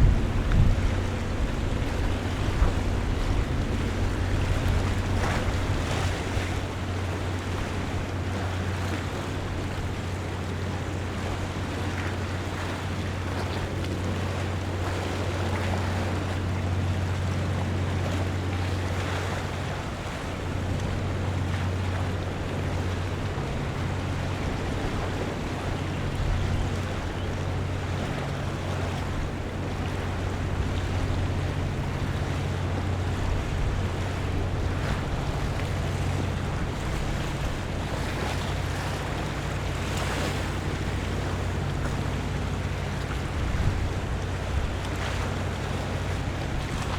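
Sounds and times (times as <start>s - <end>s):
low engine hum: 0.0s - 46.9s
water washing along shore: 0.0s - 46.9s.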